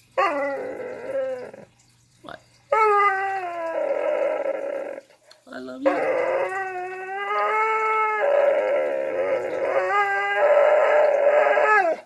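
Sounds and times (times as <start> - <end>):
dog howl-like vocalizing: 0.2 - 1.7, 2.7 - 5.1, 5.8 - 12.0.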